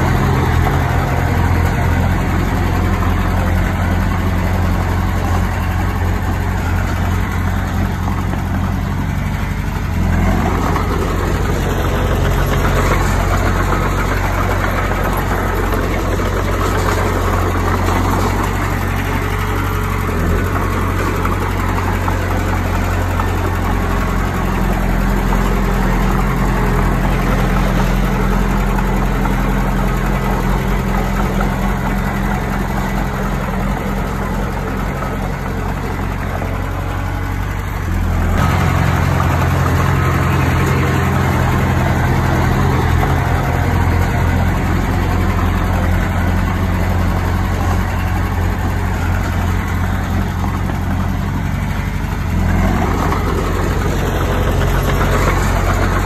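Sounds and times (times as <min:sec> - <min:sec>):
heavy machinery diesel engine running: 0:00.0 - 0:56.0.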